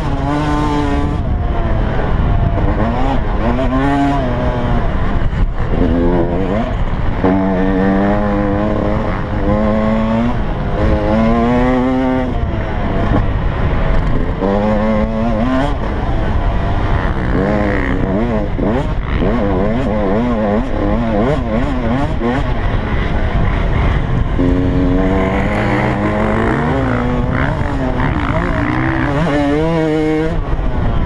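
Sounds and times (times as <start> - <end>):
motocross engine revving: 0.0 - 31.0.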